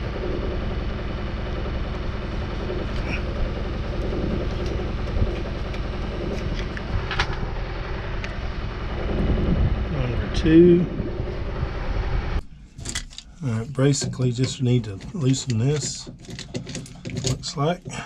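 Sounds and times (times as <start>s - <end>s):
low rumble: 0.0s - 16.1s.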